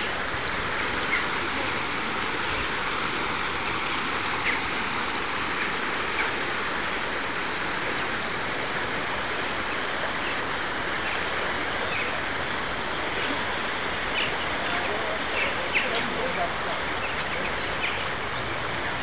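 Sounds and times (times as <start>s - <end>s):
water rushing down a channel: 0.0s - 19.0s.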